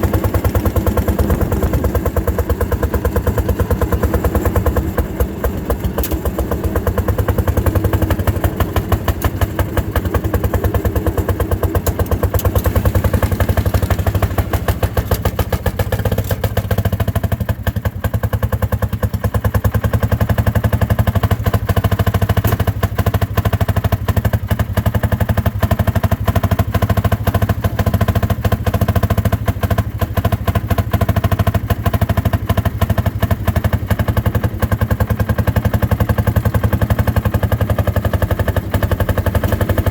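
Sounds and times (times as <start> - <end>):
two-stroke engine exhaust beats: 0.0 - 39.9.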